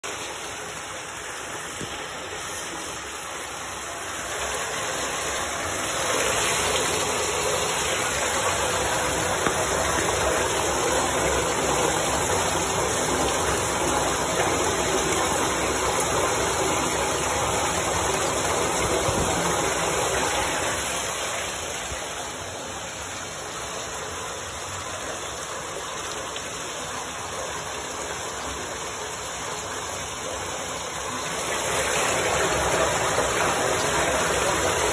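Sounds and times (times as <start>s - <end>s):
water gushing from pipe: 0.0s - 34.9s.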